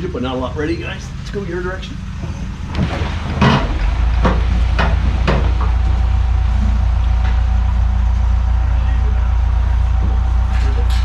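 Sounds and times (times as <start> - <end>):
steady low rumble: 0.0 - 11.0
sawmill carriage clanking: 0.1 - 11.0.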